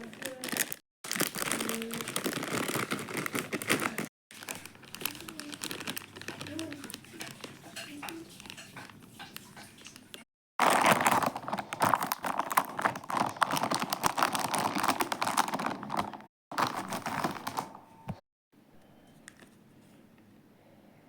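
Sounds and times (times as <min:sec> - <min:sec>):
packaging crinkling and rustling: 0:00.0 - 0:17.9.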